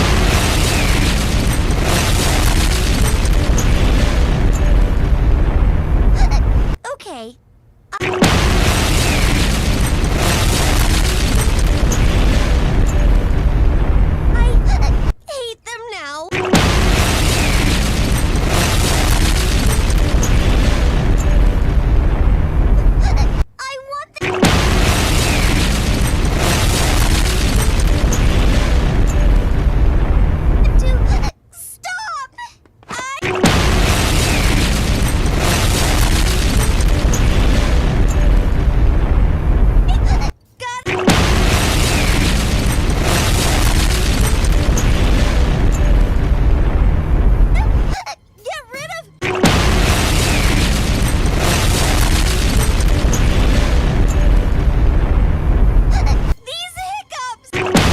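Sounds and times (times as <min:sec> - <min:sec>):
explosion with deep rumble: 0:00.0 - 0:06.8, 0:08.0 - 0:15.1, 0:16.3 - 0:23.5, 0:24.4 - 0:31.3, 0:33.3 - 0:40.3, 0:41.0 - 0:48.0, 0:49.3 - 0:56.4.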